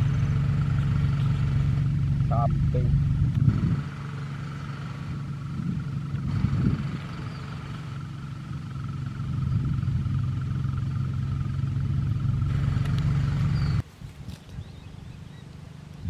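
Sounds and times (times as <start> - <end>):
low engine drone: 0.0 - 13.8.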